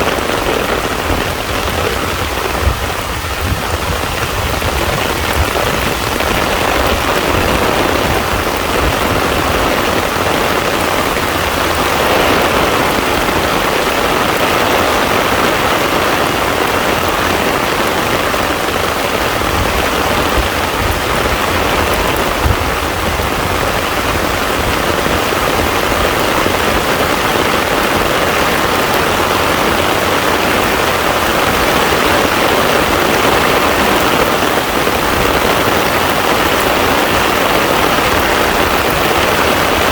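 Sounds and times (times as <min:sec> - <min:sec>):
heavy rain on pond water: 0:00.0 - 0:39.9.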